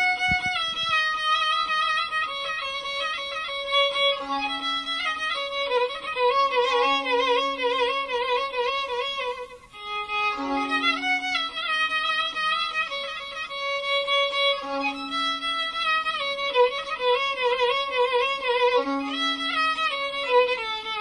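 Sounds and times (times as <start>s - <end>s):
violin melody with vibrato: 0.0s - 21.0s.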